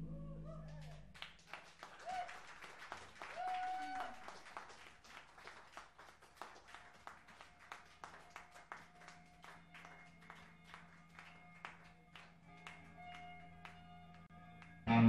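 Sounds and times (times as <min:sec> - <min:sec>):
audience clapping: 0:00.7 - 0:14.8.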